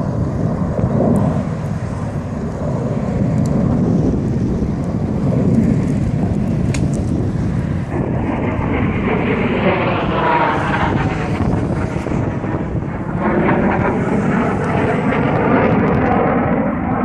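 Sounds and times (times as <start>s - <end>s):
distant jet noise: 0.0s - 17.0s
wind buffeting microphone: 0.0s - 17.0s.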